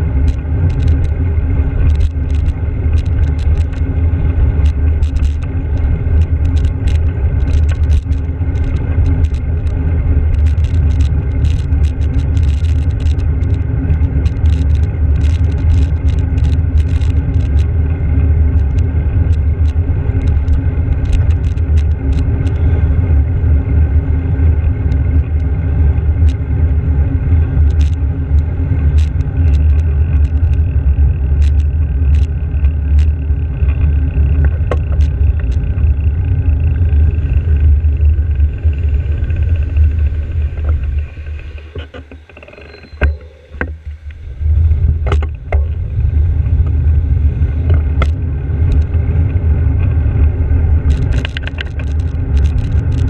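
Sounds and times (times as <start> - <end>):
sharp clicks and rattles: 0.0 - 44.2, 44.8 - 53.0
road noise: 0.0 - 53.0
wind rumble: 0.0 - 53.0.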